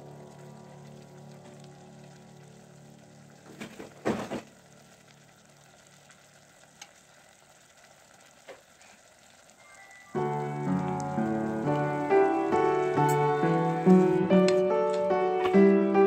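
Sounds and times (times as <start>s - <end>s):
tomatoes sizzling in oil: 0.0s - 16.0s.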